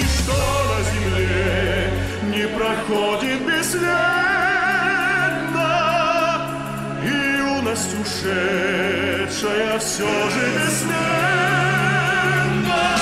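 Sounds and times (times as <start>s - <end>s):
backing music with sustained notes: 0.0s - 13.0s.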